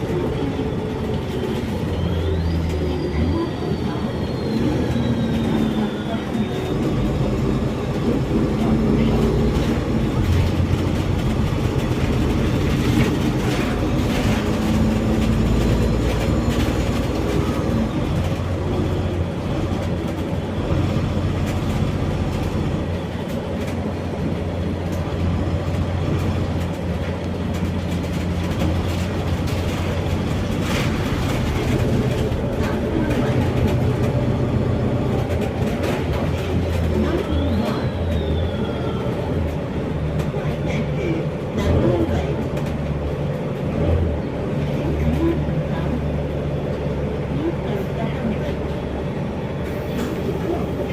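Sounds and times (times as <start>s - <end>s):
bus engine drone: 0.0s - 50.9s
bus interior rattles: 0.0s - 50.9s.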